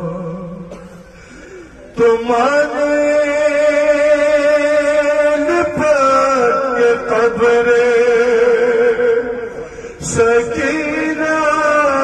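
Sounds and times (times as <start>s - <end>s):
man chanting into microphone: 1.8s - 12.0s.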